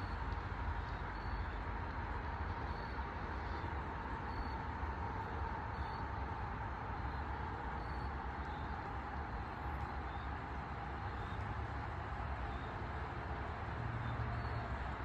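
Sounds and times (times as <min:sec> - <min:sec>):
faint steady hum: 0:00.0 - 0:15.0
low traffic-like rumble: 0:00.0 - 0:15.0.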